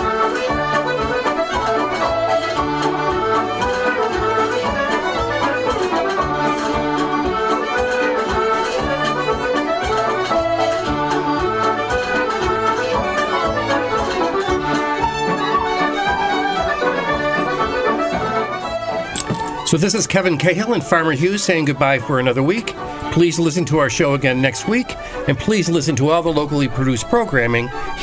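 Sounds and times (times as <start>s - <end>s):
accordion: 0.0s - 28.0s.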